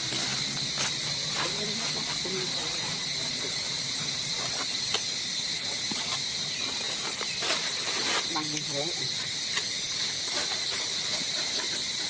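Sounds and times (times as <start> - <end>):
insect chorus drone: 0.0 - 12.0.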